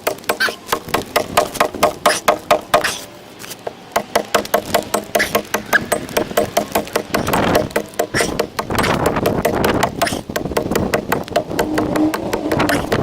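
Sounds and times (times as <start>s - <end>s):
adze chopping wood: 0.0s - 13.0s.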